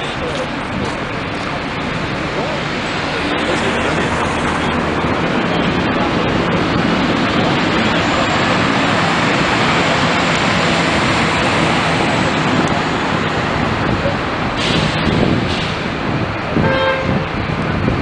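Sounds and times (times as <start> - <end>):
bus pulling away: 0.0 - 18.0
street traffic: 0.0 - 18.0.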